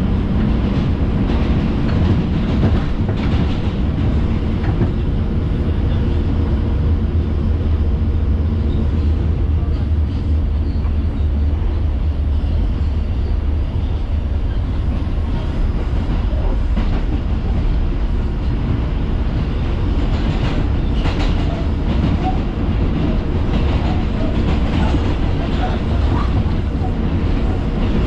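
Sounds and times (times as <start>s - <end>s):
subway wheels rumbling on rails: 0.0s - 28.0s.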